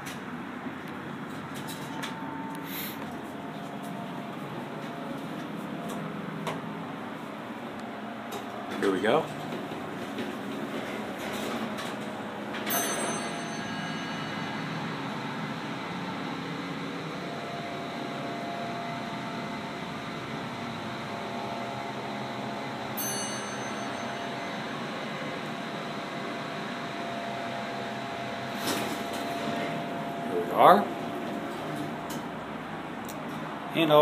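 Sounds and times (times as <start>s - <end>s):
elevator running hum: 0.0s - 34.0s
steady whine: 0.0s - 34.0s.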